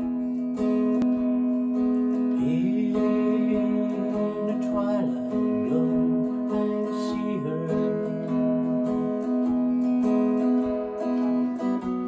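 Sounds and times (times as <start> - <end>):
clean electric guitar: 0.0 - 12.0.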